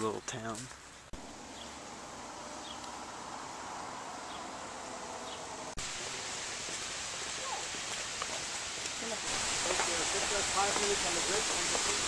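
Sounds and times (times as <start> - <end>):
low outdoor hiss: 0.0 - 12.0.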